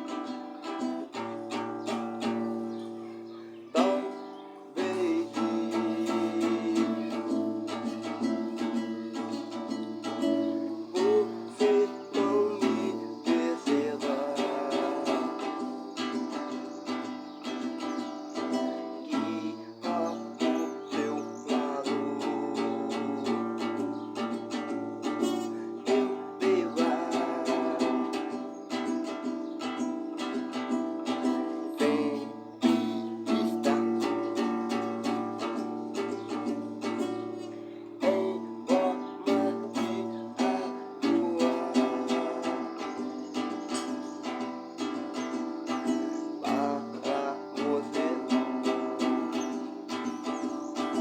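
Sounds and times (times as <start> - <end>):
plucked string instrument music: 0.0 - 51.0.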